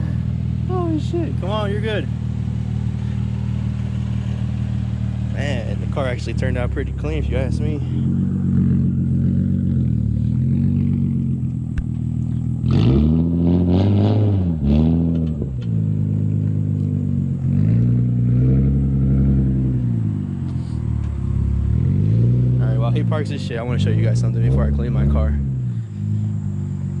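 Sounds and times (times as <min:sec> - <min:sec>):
car exhaust note with revs: 0:00.0 - 0:27.0.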